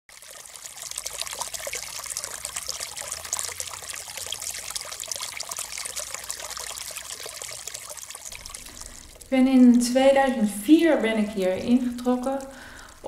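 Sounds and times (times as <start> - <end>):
tap water running into sink: 0.1 - 13.0.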